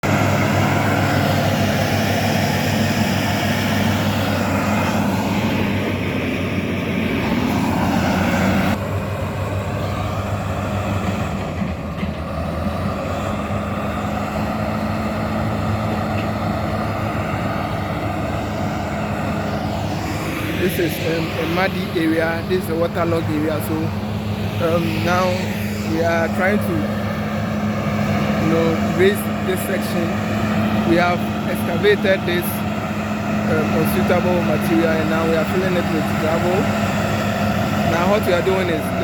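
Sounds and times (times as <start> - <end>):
heavy machinery diesel engine drone: 0.0 - 39.0.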